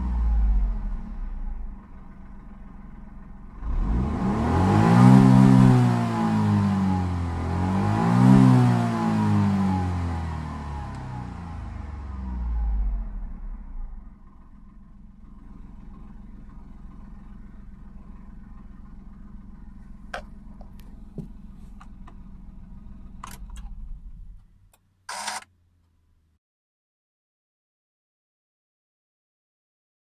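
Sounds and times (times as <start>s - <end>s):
car engine idling: 0.0s - 7.6s, 9.1s - 26.3s.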